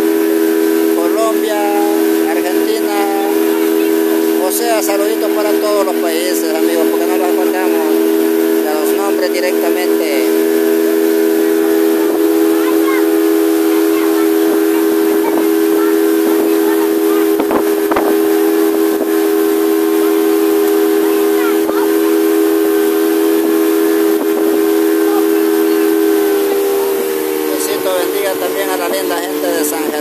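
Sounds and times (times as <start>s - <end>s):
outboard motor humming: 0.0s - 30.0s
rushing water: 0.0s - 30.0s.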